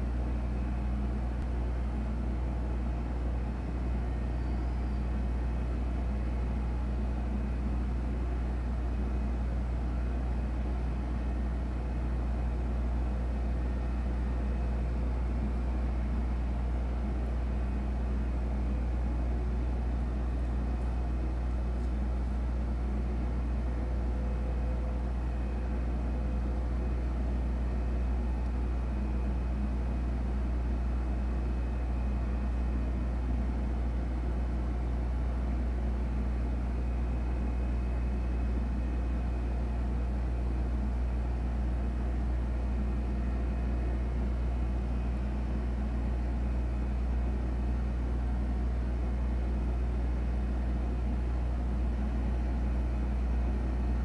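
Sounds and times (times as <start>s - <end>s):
faint steady tones: 0.0s - 54.0s
low-pitched hum: 0.0s - 54.0s.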